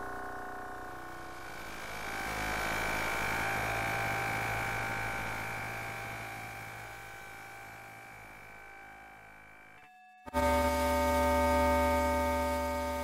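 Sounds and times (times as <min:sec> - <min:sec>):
electronic drone: 0:00.0 - 0:13.0.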